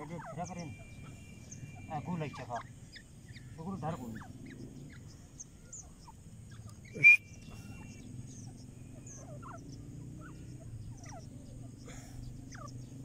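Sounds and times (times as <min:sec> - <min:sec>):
bird chirps: 0:00.0 - 0:13.0
low steady hum: 0:00.0 - 0:13.0.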